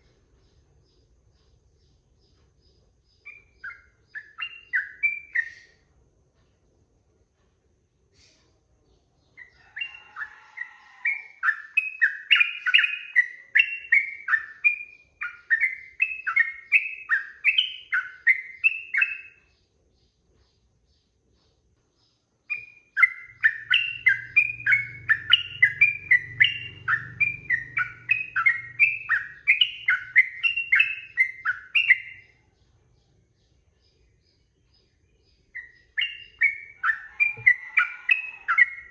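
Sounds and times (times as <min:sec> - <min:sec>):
bulbul singing: 0:00.0 - 0:06.0, 0:08.9 - 0:38.9.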